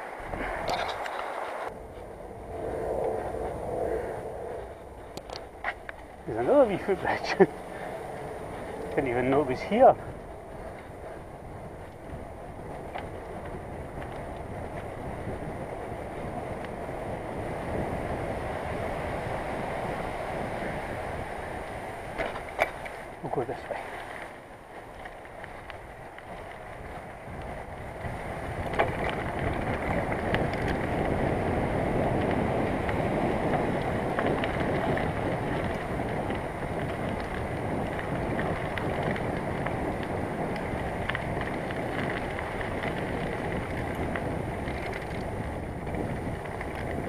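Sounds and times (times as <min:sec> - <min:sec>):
bicycle tyre rumble and rattling: 0:00.0 - 0:47.0
wind on microphone: 0:00.0 - 0:47.0.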